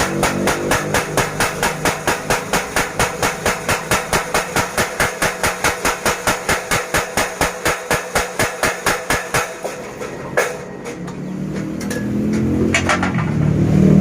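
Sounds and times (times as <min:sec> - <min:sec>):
power hammer striking iron: 0:00.0 - 0:13.5.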